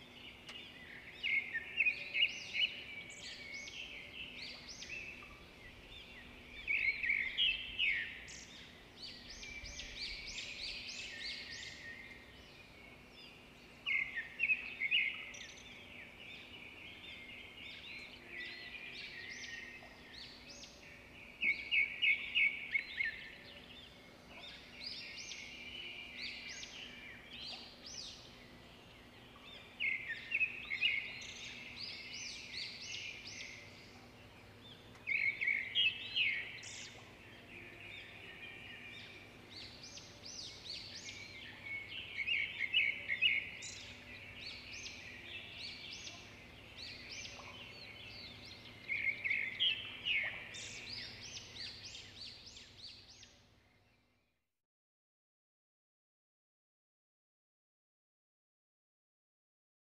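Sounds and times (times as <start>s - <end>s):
birds chirping: 0.0s - 53.4s.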